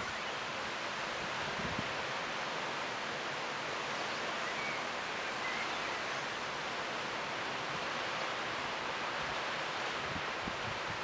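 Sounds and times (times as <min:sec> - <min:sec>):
tree leaves rustling in wind: 0:00.0 - 0:11.0.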